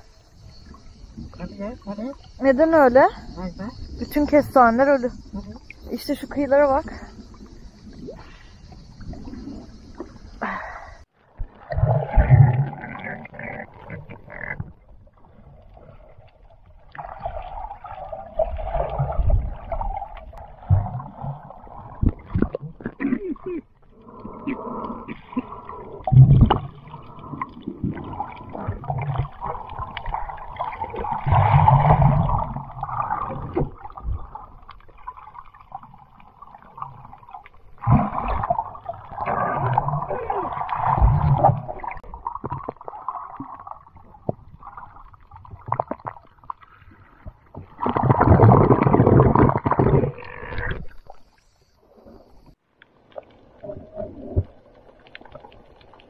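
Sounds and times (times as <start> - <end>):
underwater gurgling and bubbles: 0.0 - 56.0.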